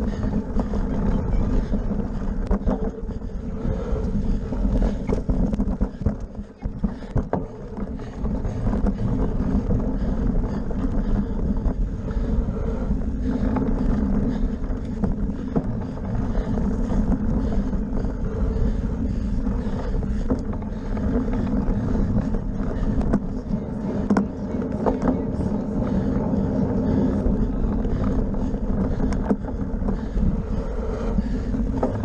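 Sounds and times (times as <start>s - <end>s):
bike rattles and clicks: 0.0s - 32.0s
bike tyres rolling on dirt: 0.0s - 32.0s
wind on microphone: 0.0s - 32.0s.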